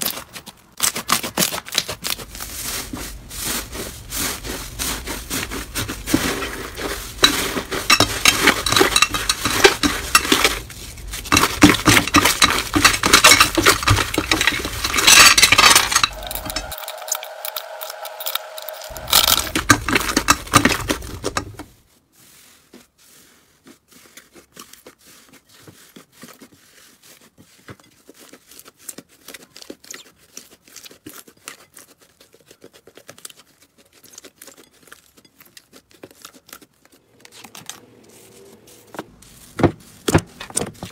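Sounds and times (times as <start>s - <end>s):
slime crackling and squelching: 0.0s - 40.9s.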